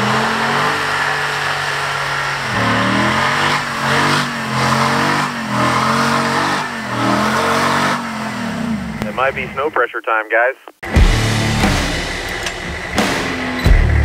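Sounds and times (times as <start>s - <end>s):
truck engine revving: 0.0s - 9.6s, 10.8s - 14.0s.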